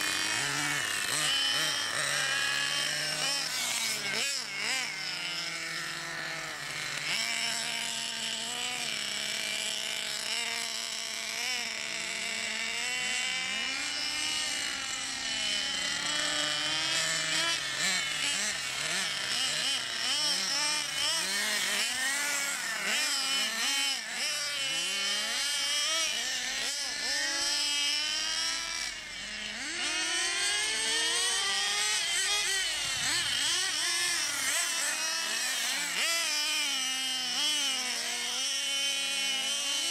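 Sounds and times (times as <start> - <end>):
radio-controlled car engines revving: 0.0 - 39.9.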